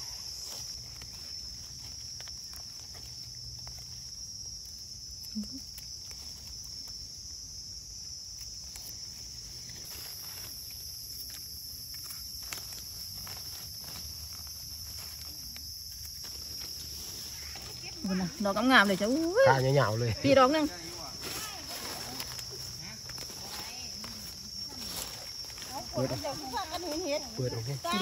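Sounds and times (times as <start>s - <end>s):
insects chorus: 0.0s - 28.0s
rustling dry leaf litter: 0.0s - 28.0s.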